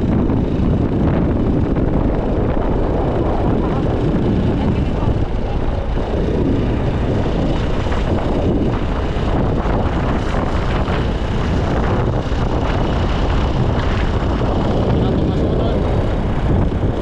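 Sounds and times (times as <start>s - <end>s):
scooter engine and road noise: 0.0s - 17.0s
wind rushing over microphone: 0.0s - 17.0s.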